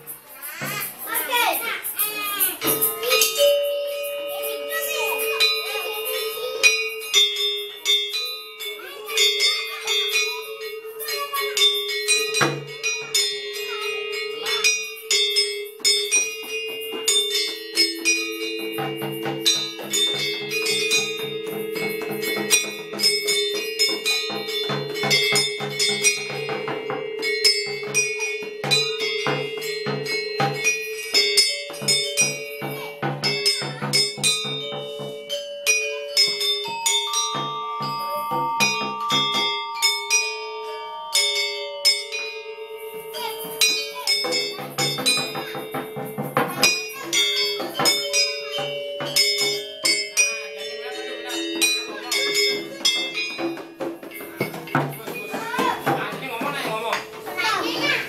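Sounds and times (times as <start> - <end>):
tuned percussion bars ringing: 0.7 - 58.0.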